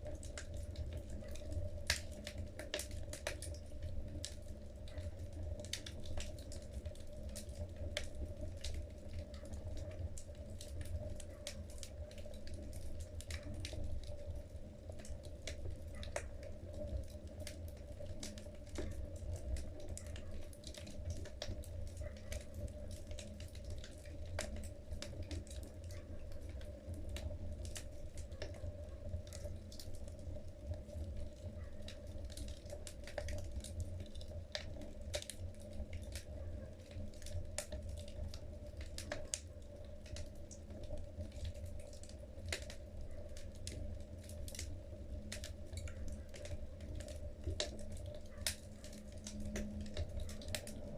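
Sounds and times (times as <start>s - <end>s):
fire low rumble: 0.0s - 50.9s
logs crackling and popping: 0.0s - 50.9s.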